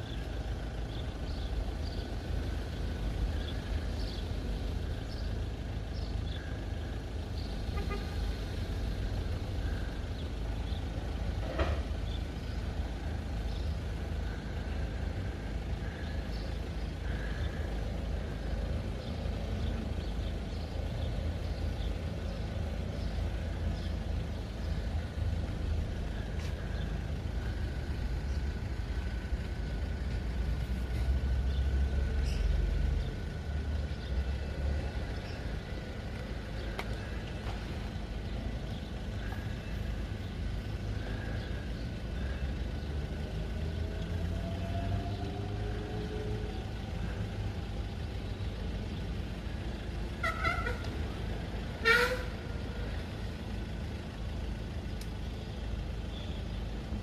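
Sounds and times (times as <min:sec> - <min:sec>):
low engine rumble of traffic: 0:00.0 - 0:57.0.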